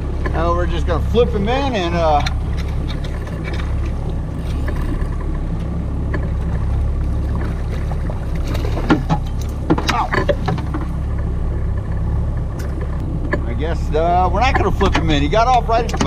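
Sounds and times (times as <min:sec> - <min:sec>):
boat engine droning: 0:00.0 - 0:16.0
water noise: 0:00.0 - 0:16.0
wind: 0:00.0 - 0:16.0.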